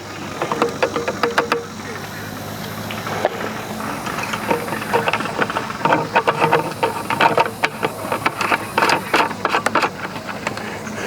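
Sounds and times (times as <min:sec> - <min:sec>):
fuel can and cap rattling: 0:00.0 - 0:11.0
steady low hum: 0:00.0 - 0:11.0.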